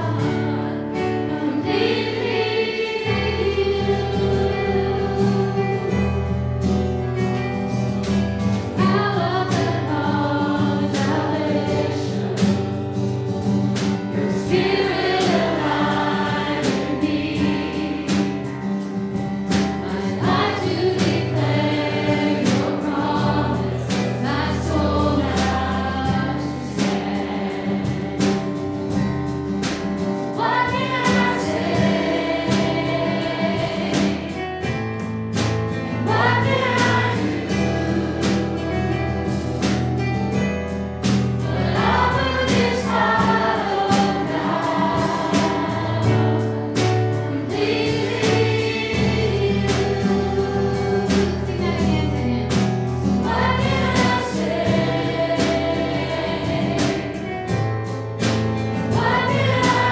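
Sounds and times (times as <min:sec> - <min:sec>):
congregation singing: 0:00.0 - 0:59.9
strummed acoustic guitar: 0:00.0 - 0:59.9.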